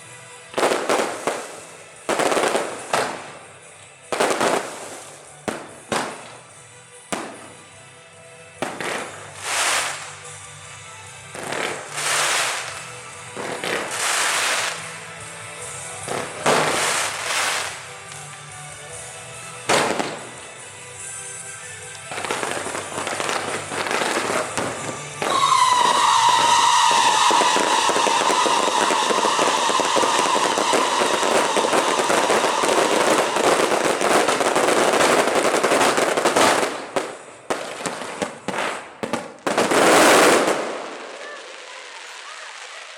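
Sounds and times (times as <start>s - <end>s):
fireworks bursting with crackle: 0.0s - 7.8s, 8.6s - 42.9s.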